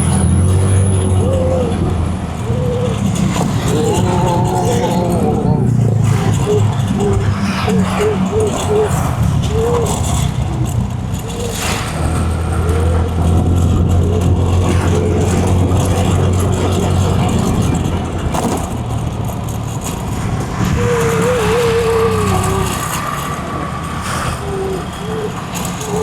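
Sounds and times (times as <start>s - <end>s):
road noise: 0.0s - 26.0s
vehicle engine drone: 0.0s - 26.0s.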